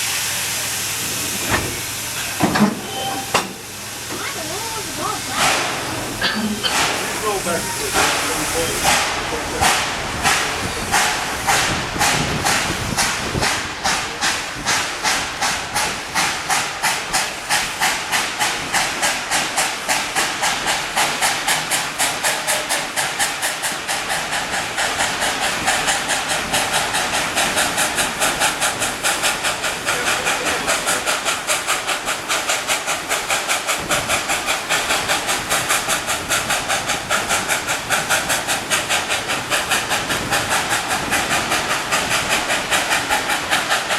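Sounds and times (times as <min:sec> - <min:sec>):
steam locomotive chuffing: 0:00.0 - 0:43.9.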